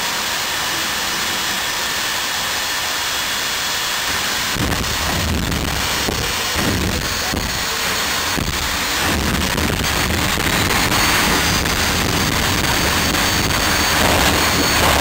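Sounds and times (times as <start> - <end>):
high turbine whine: 0.0 - 15.0
jet engine roaring: 0.0 - 15.0.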